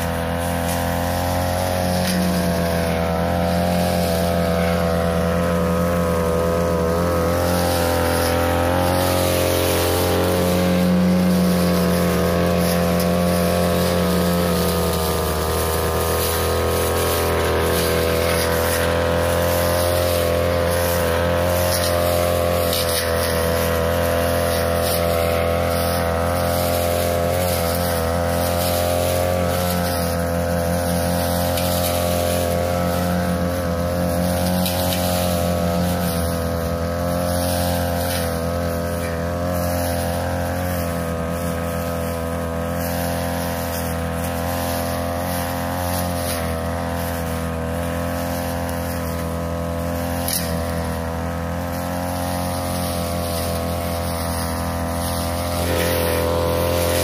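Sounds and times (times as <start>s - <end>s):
brush cutter engine cutting grass: 0.0s - 57.0s.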